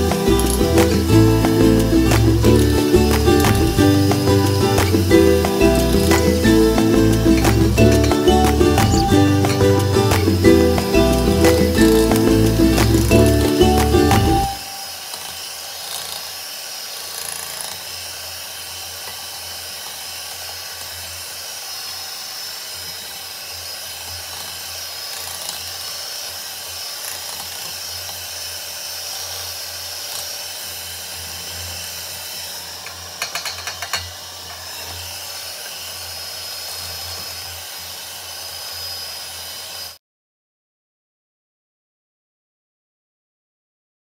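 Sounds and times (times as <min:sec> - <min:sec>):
electric hand mixer running: 0:00.0 - 0:40.0.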